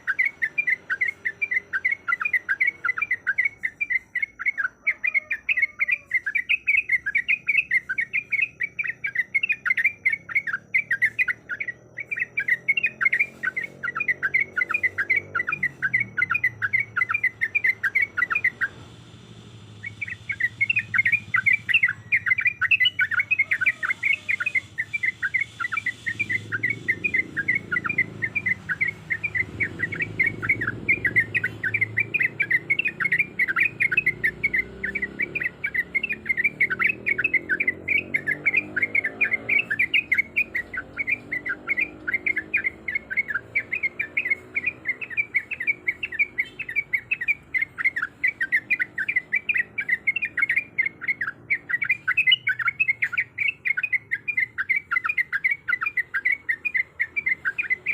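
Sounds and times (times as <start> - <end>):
bird rapid chattering song: 0.0 - 57.9.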